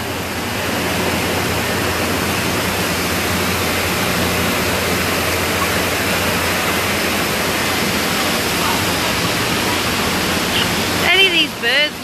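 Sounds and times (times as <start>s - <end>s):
low machinery hum: 0.0s - 12.0s
machinery rushing noise: 0.0s - 12.0s.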